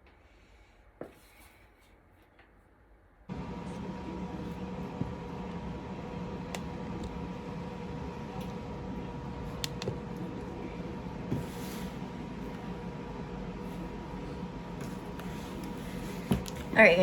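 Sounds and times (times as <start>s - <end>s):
mechanical hum with whine: 3.3s - 17.0s.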